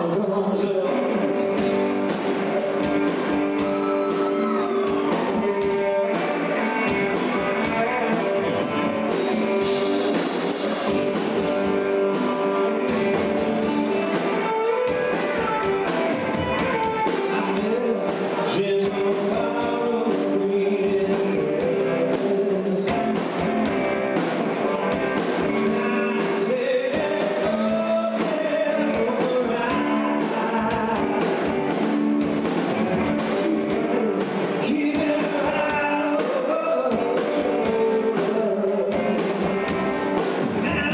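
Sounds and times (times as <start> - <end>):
person singing: 0.0 - 1.9, 2.6 - 9.9, 12.1 - 23.5, 24.5 - 32.0, 33.0 - 40.9
band playing a song: 0.0 - 40.9.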